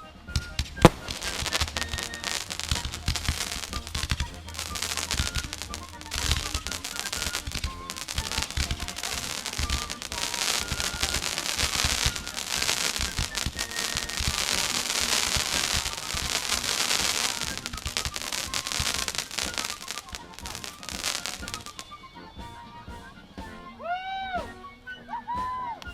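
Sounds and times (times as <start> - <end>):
fireworks crackling and banging: 0.3 - 22.0.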